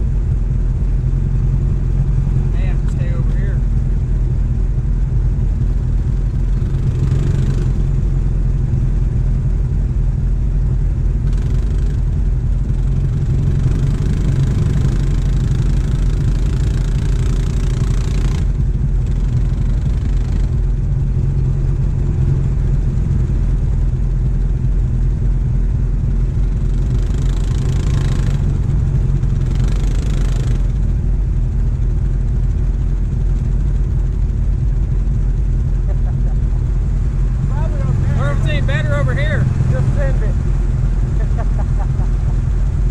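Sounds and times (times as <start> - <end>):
atv engine revving: 5.3 - 9.6, 10.7 - 42.9.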